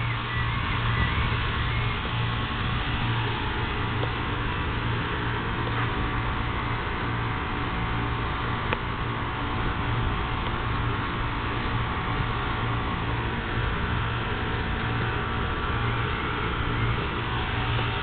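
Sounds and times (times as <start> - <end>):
constant hiss: 0.0 - 18.0
steady low hum: 0.0 - 18.0.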